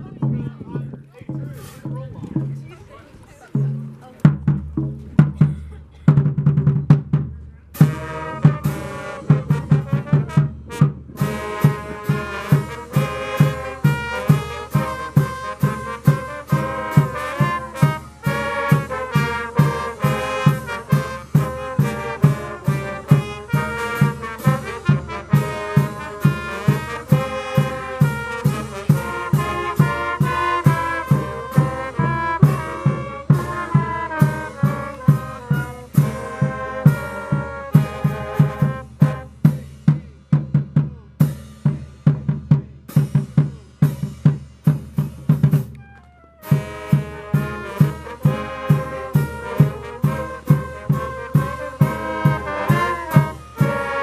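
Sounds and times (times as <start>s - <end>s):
steady drum beat: 0.0s - 54.0s
brass band playing: 7.7s - 40.0s, 41.2s - 54.0s.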